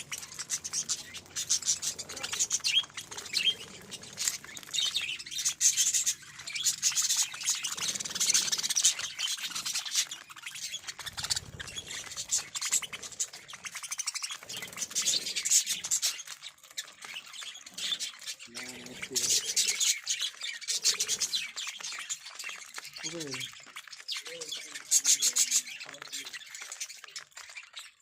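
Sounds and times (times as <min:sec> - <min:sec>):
budgerigars chattering: 0:00.0 - 0:28.0.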